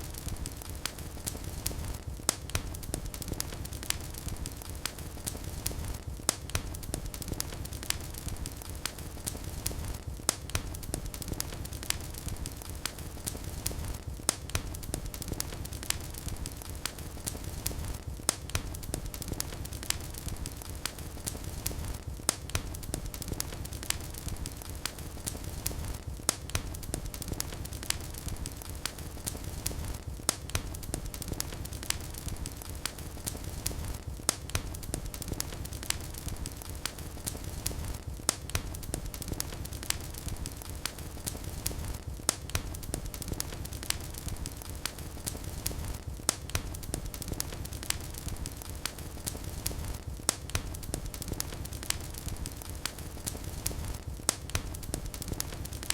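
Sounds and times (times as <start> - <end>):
fire pops and snaps: 0.0 - 55.9
low rumble of flame: 0.0 - 55.9
wood fire crackling: 0.0 - 55.9.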